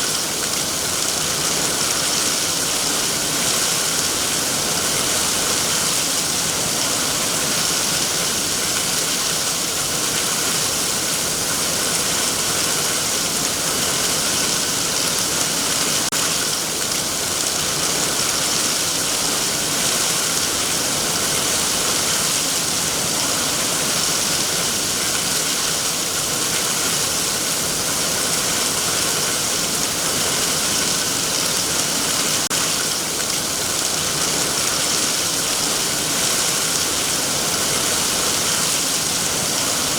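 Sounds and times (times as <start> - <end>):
heavy rain on foliage: 0.0 - 39.9.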